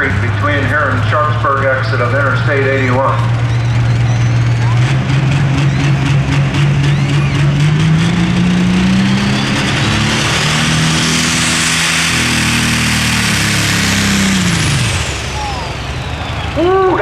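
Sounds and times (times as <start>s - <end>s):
tractor engine running hard: 0.0s - 17.0s
high whine: 0.8s - 17.0s.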